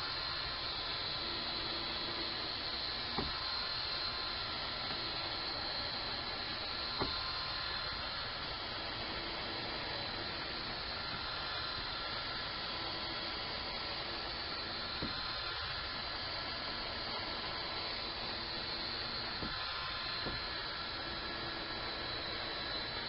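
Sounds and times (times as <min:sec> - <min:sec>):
faint high whine: 0:00.0 - 0:23.0
steady hiss: 0:00.0 - 0:23.0.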